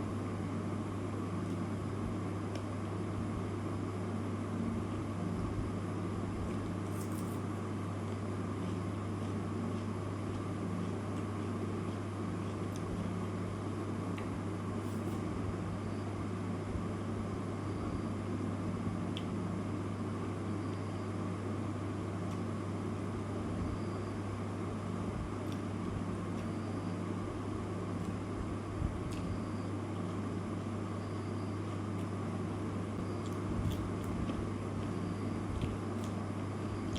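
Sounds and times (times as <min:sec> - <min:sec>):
steady low hum with hiss: 0:00.0 - 0:36.9.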